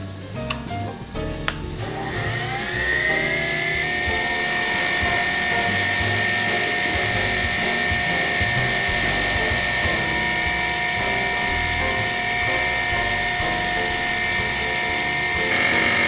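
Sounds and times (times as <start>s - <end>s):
milling machine whine: 1.8s - 16.0s
strong hiss: 1.8s - 16.0s.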